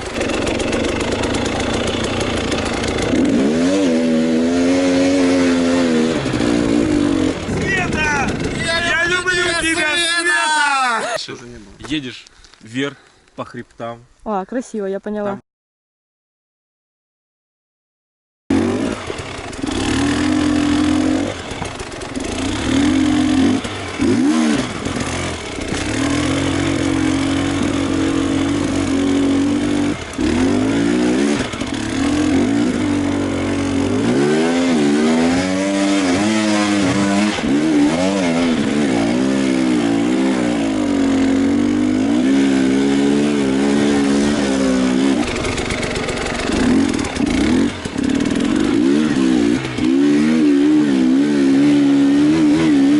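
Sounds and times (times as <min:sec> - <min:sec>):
motorcycle engine revving: 0:00.0 - 0:10.0, 0:18.5 - 0:52.9.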